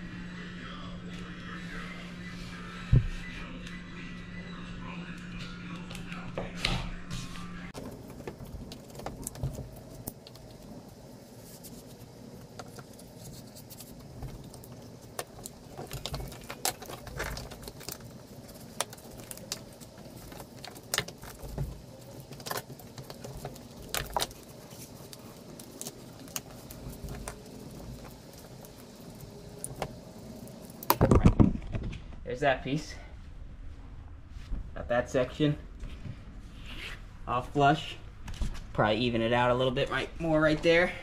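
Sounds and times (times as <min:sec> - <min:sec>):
low hum: 0:00.0 - 0:40.3.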